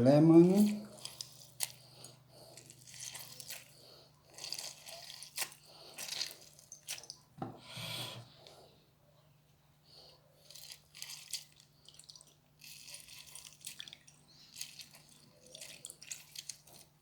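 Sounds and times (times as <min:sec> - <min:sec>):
wet squeezing noise: 0:00.3 - 0:08.0, 0:10.4 - 0:17.0.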